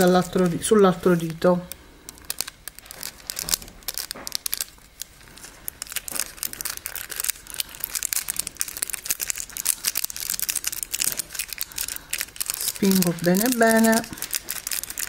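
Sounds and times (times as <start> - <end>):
thin foil crinkling: 0.0 - 15.0.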